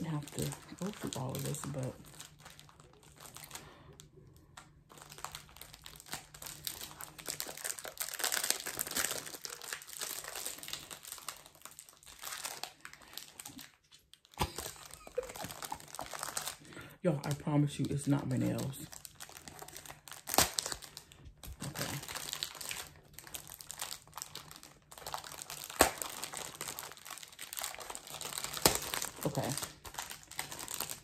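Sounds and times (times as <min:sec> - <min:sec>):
plastic film crinkling: 0:00.0 - 0:31.0.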